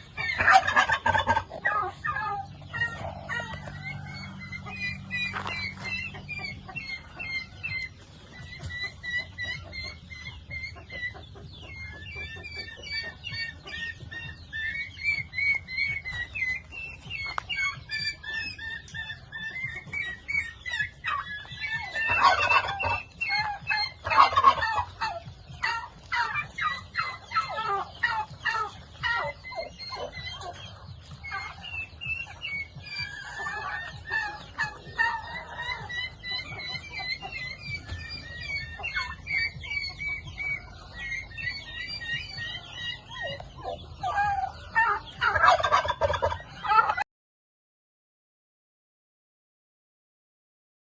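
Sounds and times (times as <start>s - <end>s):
poultry clucking: 0.0s - 47.0s
turkeys gobbling: 0.0s - 47.0s.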